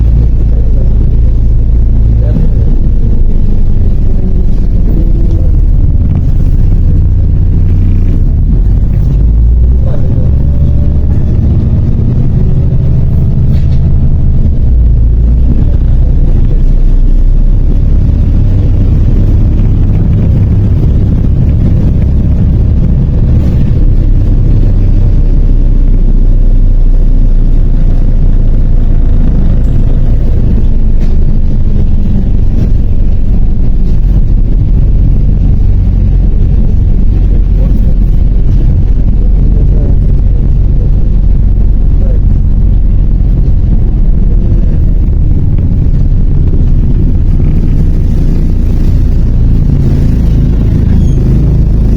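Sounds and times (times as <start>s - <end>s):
bus engine low rumble: 0.0s - 51.9s.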